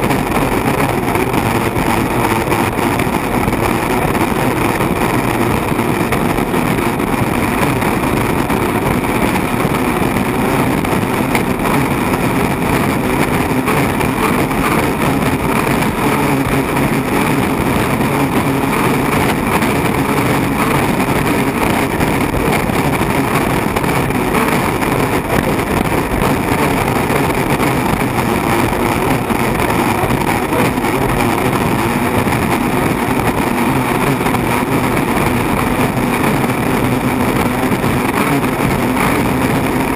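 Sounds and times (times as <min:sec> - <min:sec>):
rush of wind and water: 0:00.0 - 0:39.9
turbine engine running: 0:00.0 - 0:39.9.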